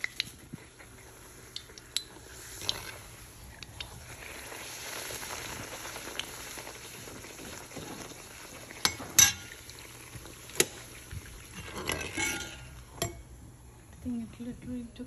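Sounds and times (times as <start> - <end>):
tortilla sizzling in oil: 0.0 - 13.4.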